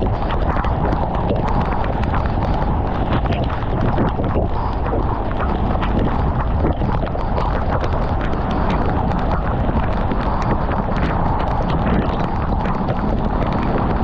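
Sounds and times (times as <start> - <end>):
raindrops tapping microphone: 0.0 - 14.0
wind rushing over microphone: 0.0 - 14.0.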